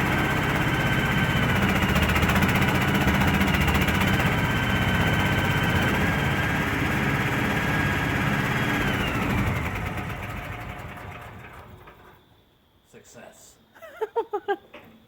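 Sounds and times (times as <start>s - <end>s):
truck engine running: 0.0s - 12.1s
generator and pump whine: 0.0s - 12.2s.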